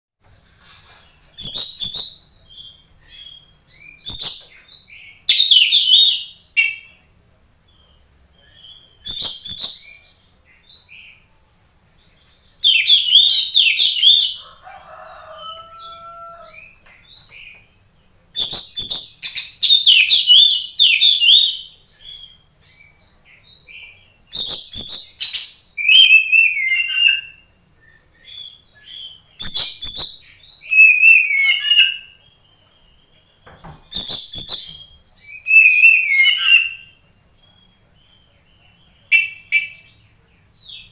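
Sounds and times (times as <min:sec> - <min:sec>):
magpie-robin singing: 0:01.1 - 0:11.3, 0:12.2 - 0:14.4, 0:15.0 - 0:40.9.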